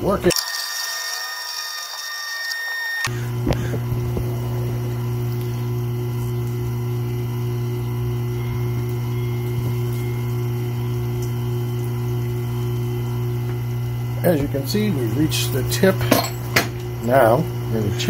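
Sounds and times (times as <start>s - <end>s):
low motor hum: 3.0s - 18.0s.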